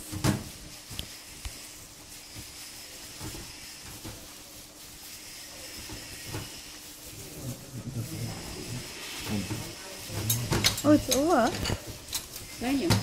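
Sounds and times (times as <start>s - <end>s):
room noise hiss and hum: 0.0s - 13.0s.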